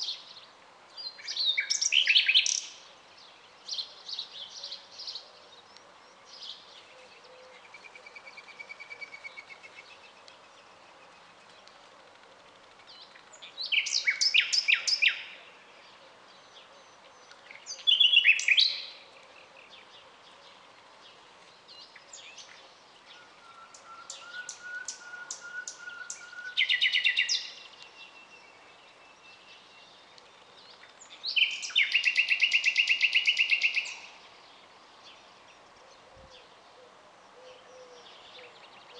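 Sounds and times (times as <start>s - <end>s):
nightingale singing: 0.0s - 2.9s, 3.6s - 11.8s, 12.8s - 20.6s, 21.6s - 38.9s.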